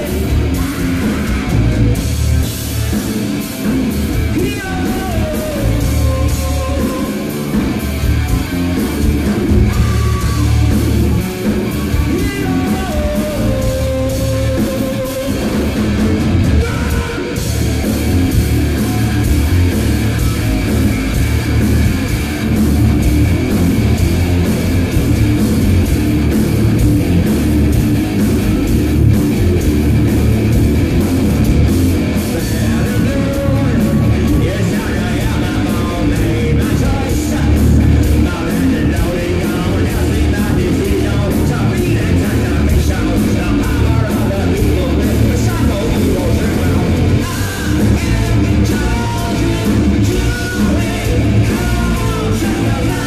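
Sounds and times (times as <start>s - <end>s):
hard rock band playing live: 0.0s - 53.0s
melodic guitar lead line: 0.0s - 53.0s.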